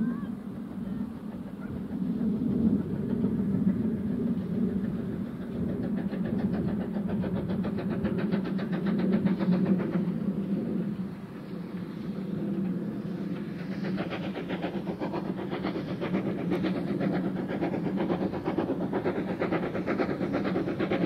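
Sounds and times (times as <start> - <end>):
rhythmic train wheel beat: 0.0 - 21.0
steam train rumbling past: 0.0 - 21.0.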